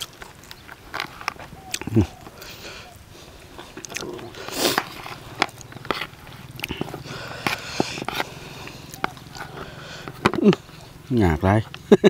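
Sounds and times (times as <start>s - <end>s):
close-up chewing and biting: 0.0s - 11.8s.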